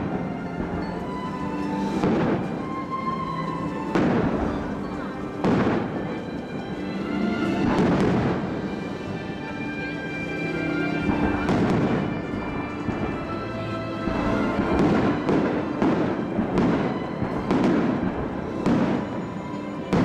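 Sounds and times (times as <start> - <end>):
faint music from distant speakers: 0.0 - 20.0.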